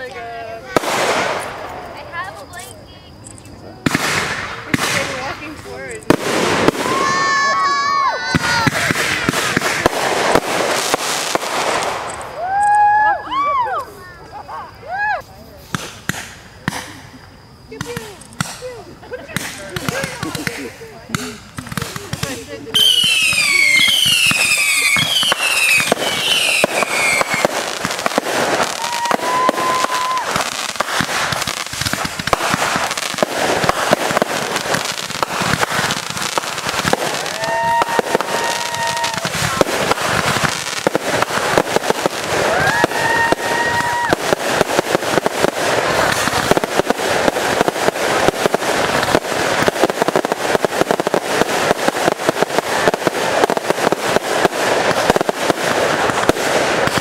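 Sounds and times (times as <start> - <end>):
firework whistles: 0.0 - 20.6, 21.4 - 57.0
fireworks crackling and popping: 0.0 - 57.0.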